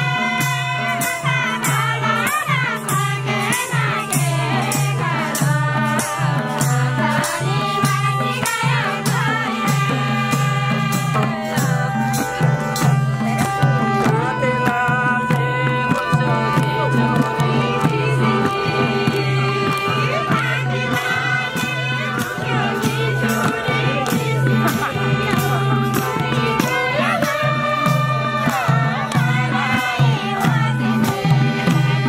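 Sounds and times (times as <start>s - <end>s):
hand drum beating: 0.0s - 32.0s
women singing folk song: 0.0s - 32.0s.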